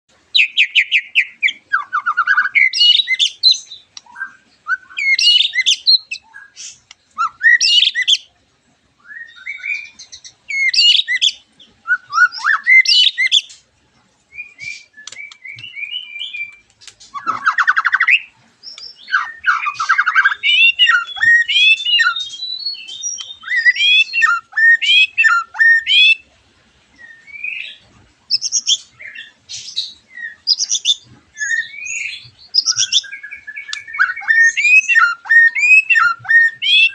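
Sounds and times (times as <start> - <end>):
bird song with whistled phrases: 0.3 - 8.3, 9.0 - 13.6, 14.3 - 26.3, 27.0 - 36.9.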